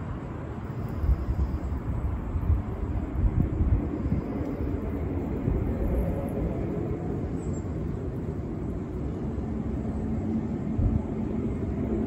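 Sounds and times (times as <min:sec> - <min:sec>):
low rumble from the sky: 0:00.0 - 0:12.0
wind gusting on microphone: 0:00.0 - 0:12.0.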